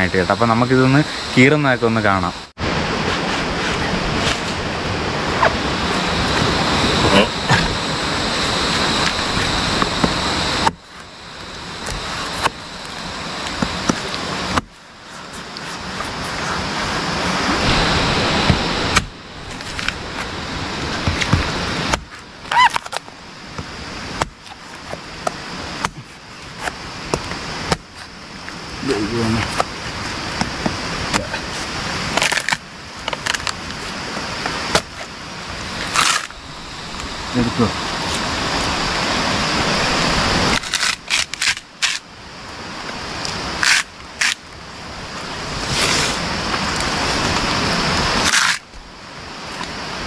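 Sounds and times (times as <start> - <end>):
steady rushing noise: 0.0 - 32.2, 33.7 - 50.0
steady background hiss: 0.0 - 50.0.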